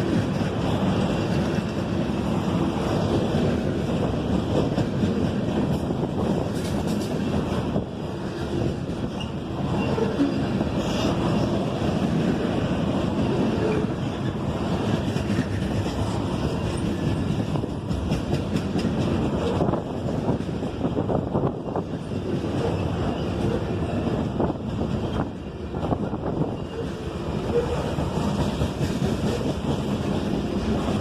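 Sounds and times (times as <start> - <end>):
freight train wheels on rail: 0.0 - 31.0.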